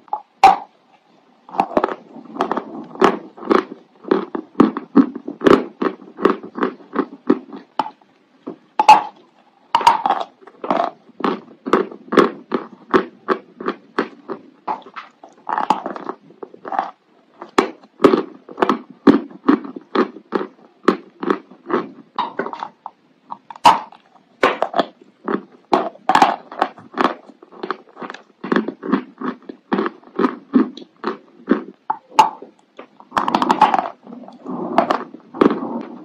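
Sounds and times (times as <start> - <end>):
chalk crunching while chewed: 1.5 - 8.0, 9.8 - 36.0.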